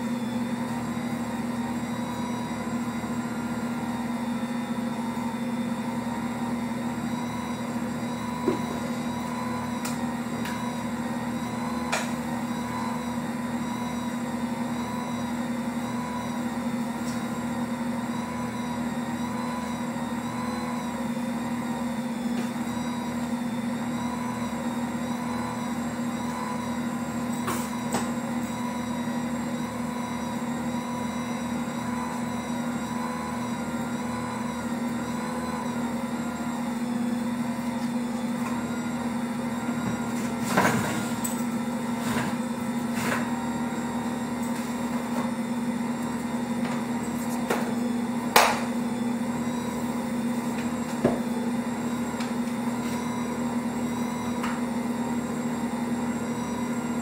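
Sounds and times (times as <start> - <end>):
stand mixer motor humming: 0.0 - 40.4, 41.4 - 57.0.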